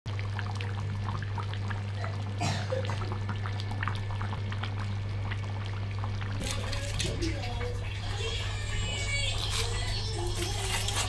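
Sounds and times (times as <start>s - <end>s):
curry bubbling as it simmers: 0.1s - 11.0s.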